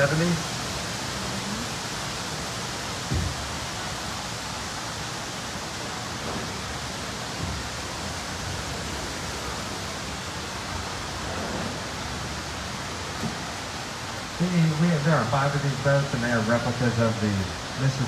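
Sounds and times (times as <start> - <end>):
falling water rushing: 0.0 - 18.0.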